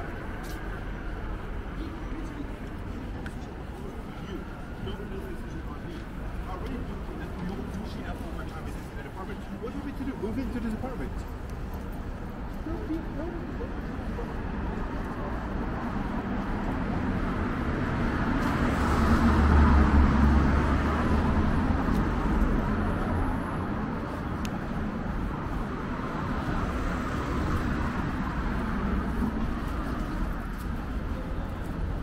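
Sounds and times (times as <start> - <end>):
city street traffic: 0.0 - 32.0.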